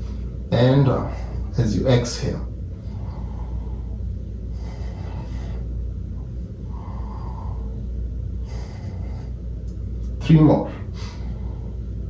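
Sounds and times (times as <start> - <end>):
man breathing: 0.0 - 1.6, 2.6 - 12.0
low rumble: 0.0 - 12.0.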